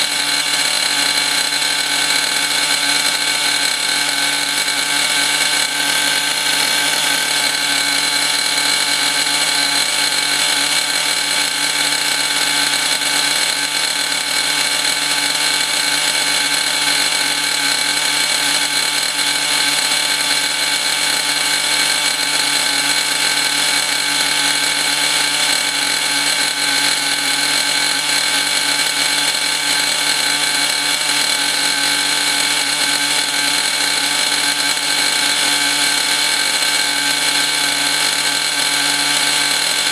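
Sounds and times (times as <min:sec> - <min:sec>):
model engine running rough: 0:00.0 - 0:39.9.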